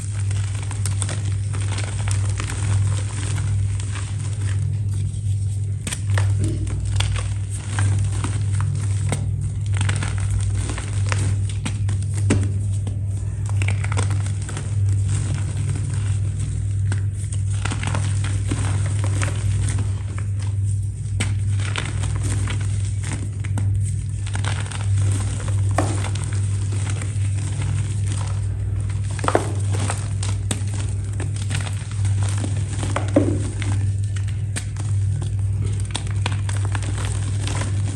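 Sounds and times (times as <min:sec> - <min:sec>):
crispy material crackling and crunching: 0:00.0 - 0:37.9
low hum: 0:00.0 - 0:37.9.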